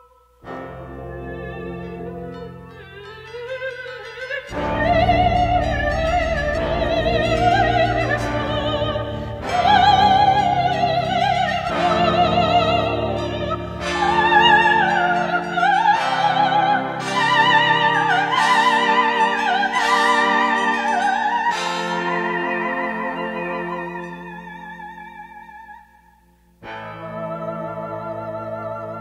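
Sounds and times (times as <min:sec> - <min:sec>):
low electronic chords: 0:00.0 - 0:25.7
operatic singing in a high voice: 0:00.8 - 0:25.1, 0:26.8 - 0:29.0.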